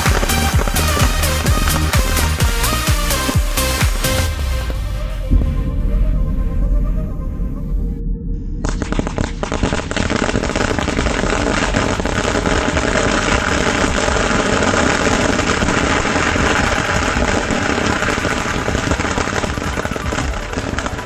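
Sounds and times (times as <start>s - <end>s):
firecrackers crackling: 0.0s - 4.9s, 8.6s - 21.0s.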